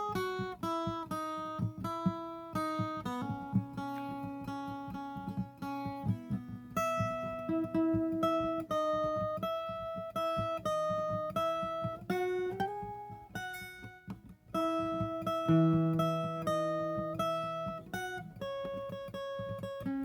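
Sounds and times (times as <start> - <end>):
plucked guitar melody: 0.0 - 20.0.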